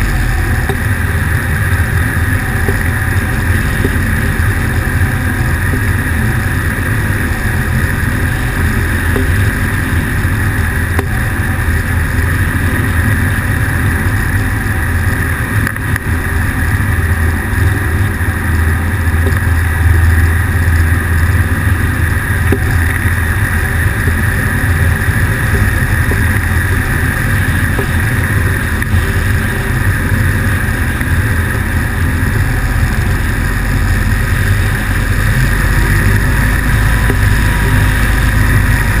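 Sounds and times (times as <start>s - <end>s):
aircraft engine cruising: 0.0s - 39.0s.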